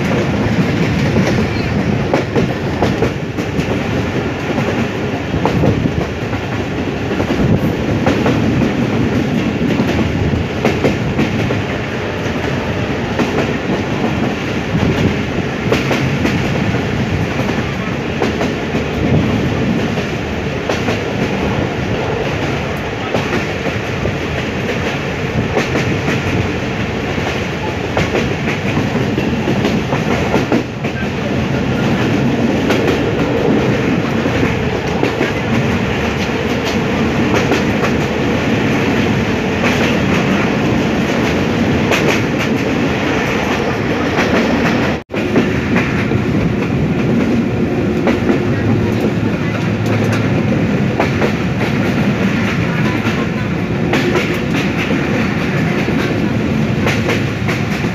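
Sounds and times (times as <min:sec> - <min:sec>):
clickety-clack over rail joints: 0:00.0 - 0:57.9
train wheels rumbling on rails: 0:00.0 - 0:57.9.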